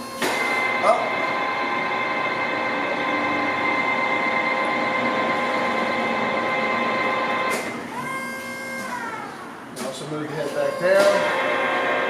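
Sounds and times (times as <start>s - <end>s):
drill drive mechanical whine: 0.0s - 9.7s, 10.6s - 12.0s.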